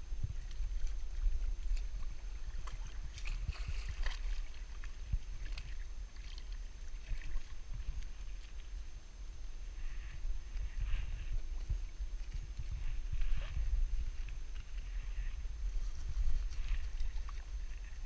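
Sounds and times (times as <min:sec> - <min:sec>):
wind rumbling on microphone: 0:00.0 - 0:18.0
water lapping against rocks: 0:00.1 - 0:18.0.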